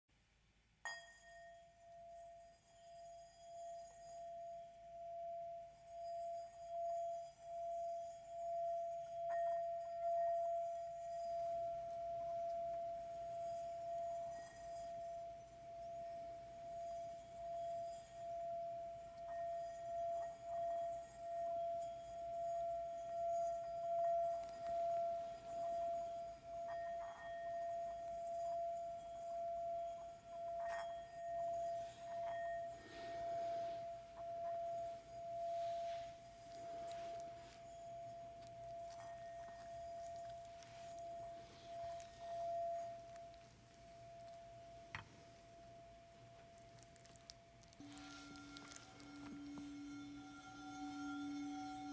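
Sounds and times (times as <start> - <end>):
singing bowl ringing: 0.8 - 46.6, 47.4 - 51.9.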